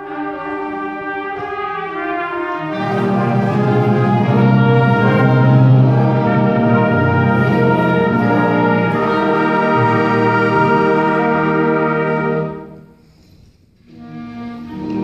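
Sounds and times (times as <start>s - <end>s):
low brass: 0.0s - 13.0s.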